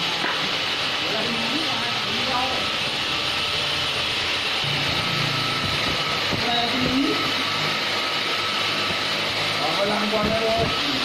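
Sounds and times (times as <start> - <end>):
hissing machine noise: 0.0 - 11.0.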